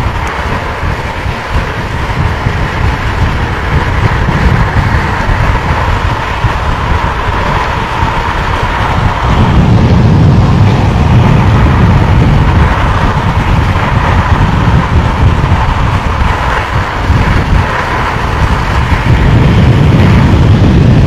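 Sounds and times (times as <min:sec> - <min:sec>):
longboard wheels rolling on asphalt: 0:00.0 - 0:21.0
wind buffeting microphone: 0:00.0 - 0:21.0.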